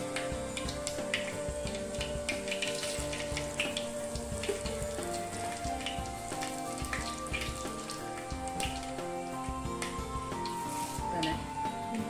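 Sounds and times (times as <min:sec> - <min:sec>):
small crackling pops: 0:00.0 - 0:11.4
chillies sizzling in hot oil: 0:00.0 - 0:12.0
instrumental background music: 0:00.0 - 0:12.0.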